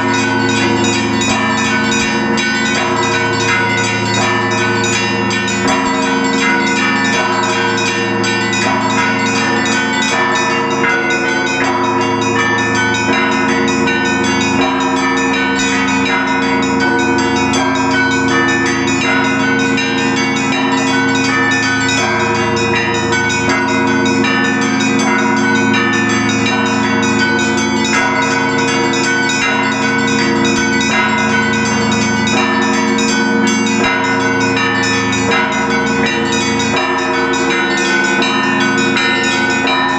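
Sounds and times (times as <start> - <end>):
hum of large bells: 0.0 - 39.9
small bells chiming: 0.0 - 39.9.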